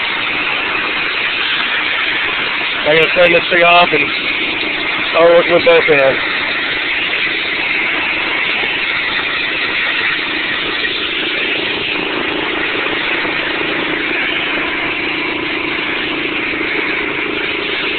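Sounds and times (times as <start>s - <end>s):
engine hum: 0.0s - 17.9s.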